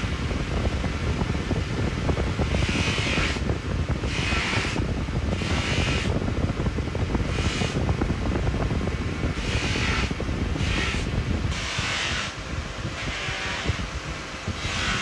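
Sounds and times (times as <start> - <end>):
buffing machine motor rumble: 0.0 - 15.0.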